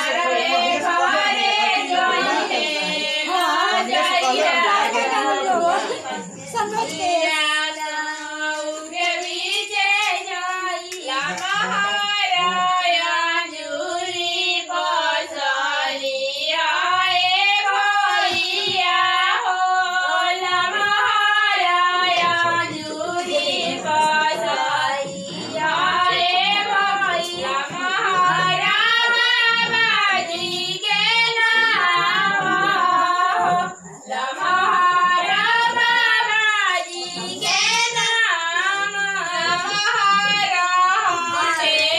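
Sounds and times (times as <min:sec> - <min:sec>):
high-pitched voices singing: 0:00.0 - 0:41.9.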